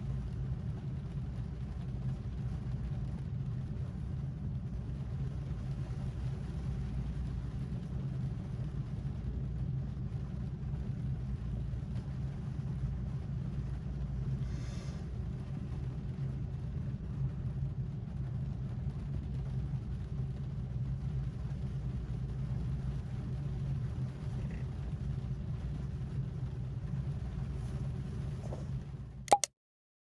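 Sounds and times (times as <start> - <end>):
rain on a car roof: 0.0 - 29.3.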